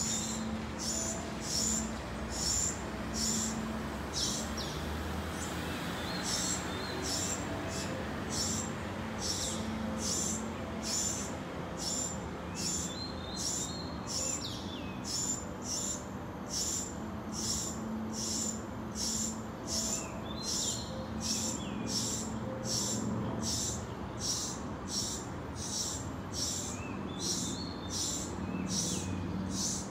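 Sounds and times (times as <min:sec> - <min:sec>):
low city rumble: 0:00.0 - 0:29.9.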